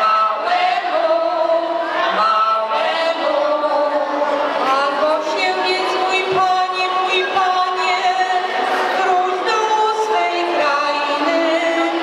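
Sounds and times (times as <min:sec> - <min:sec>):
voices singing a carol: 0:00.0 - 0:12.0.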